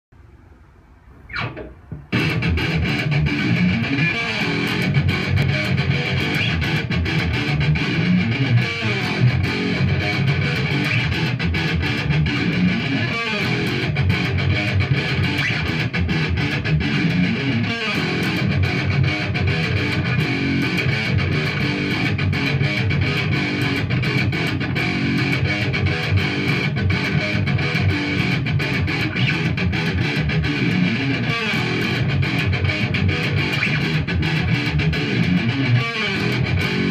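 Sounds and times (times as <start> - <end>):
fast-picked electric guitar: 1.3 - 36.9.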